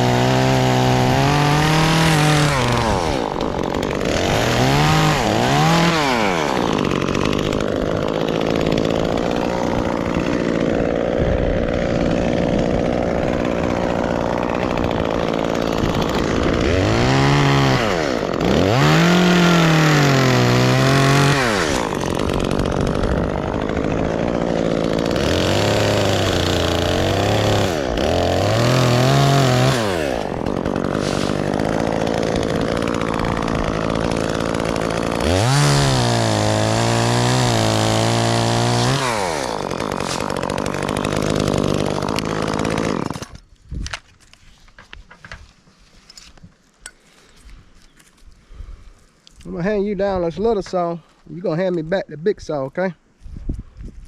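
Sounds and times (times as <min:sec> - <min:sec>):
chainsaw revving: 0:00.0 - 0:43.5.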